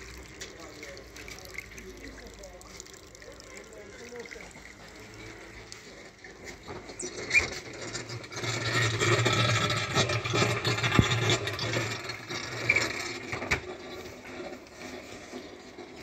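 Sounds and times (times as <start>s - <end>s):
washing machine spinning: 0.0s - 16.0s.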